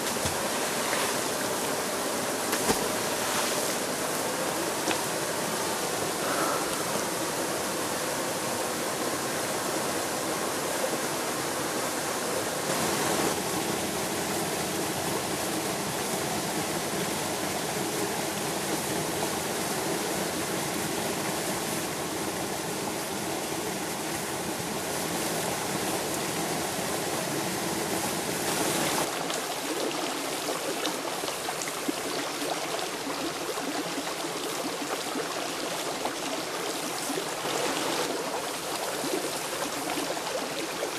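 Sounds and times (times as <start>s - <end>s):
waterfall splashing into pool: 0.0s - 8.3s, 12.6s - 40.9s
stream running over rocks: 0.0s - 40.9s.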